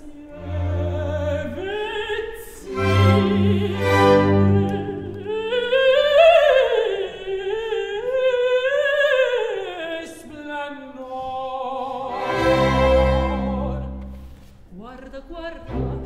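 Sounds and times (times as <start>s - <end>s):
woman singing operatically: 0.0s - 14.1s, 14.7s - 16.0s.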